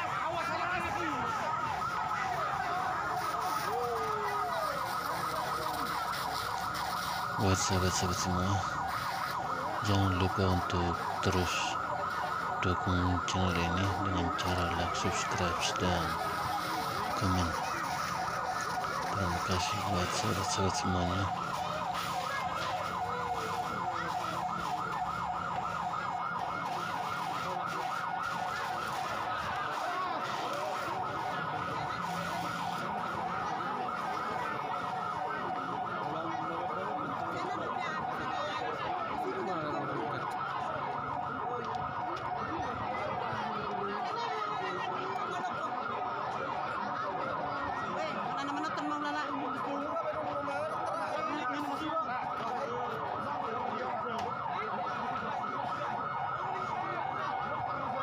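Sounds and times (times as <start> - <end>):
crowd voices: 0.0 - 58.0
fire truck siren warbling: 0.0 - 58.0.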